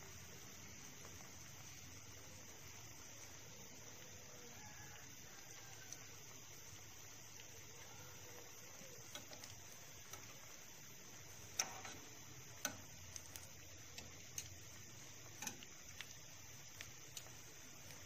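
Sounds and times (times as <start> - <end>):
oil frying hiss: 0.0 - 18.0.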